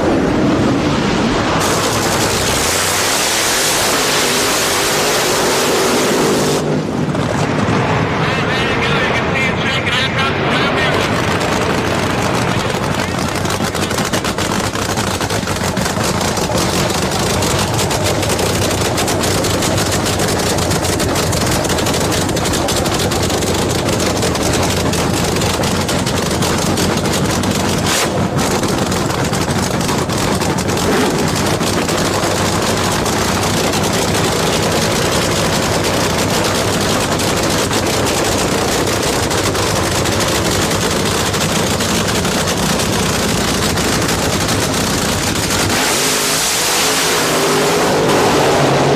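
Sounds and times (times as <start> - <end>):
loud dragster engines crackling: 0.0 - 48.9.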